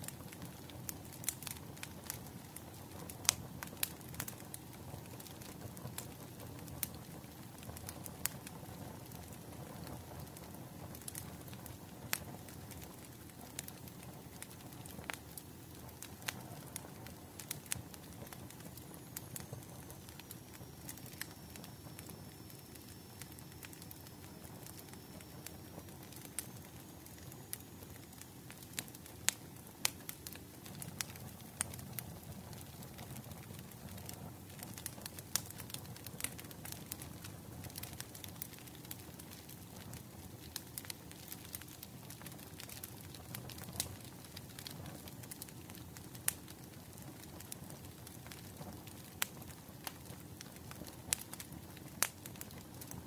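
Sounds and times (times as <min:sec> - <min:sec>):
bonfire crackling: 0:00.0 - 0:53.0.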